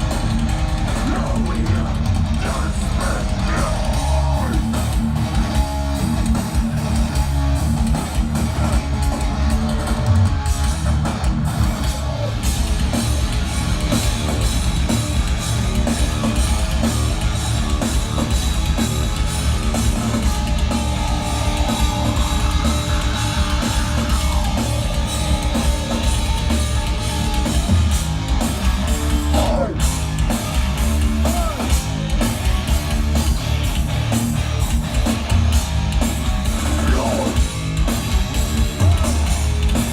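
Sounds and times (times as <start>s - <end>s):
heavy rock band playing: 0.0s - 39.9s.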